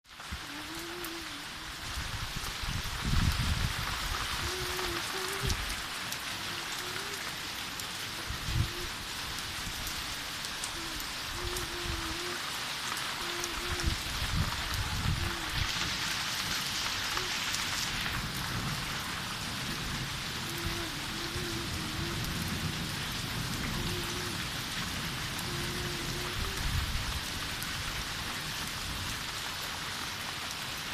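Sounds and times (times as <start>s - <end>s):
heavy rain hissing: 0.1s - 30.9s.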